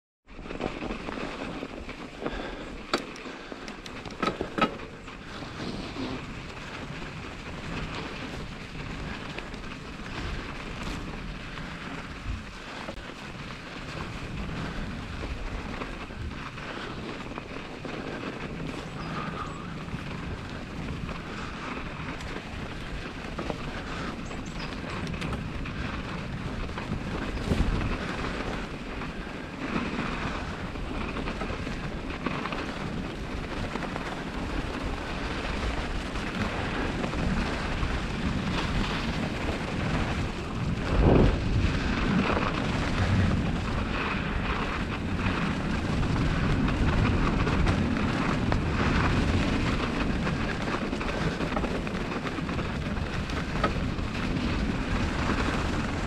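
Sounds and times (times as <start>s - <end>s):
bicycle tyres rumbling in snow: 0.3s - 56.0s
wind on microphone: 0.6s - 56.0s.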